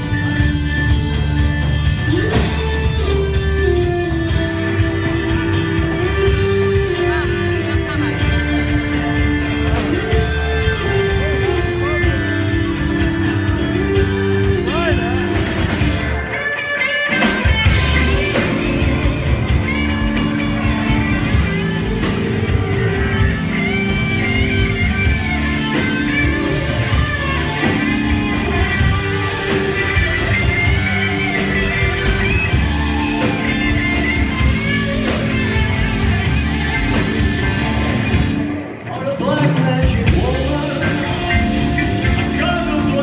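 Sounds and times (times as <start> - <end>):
lead electric guitar bending: 0.0 - 43.0
live rock band playing: 0.0 - 43.0.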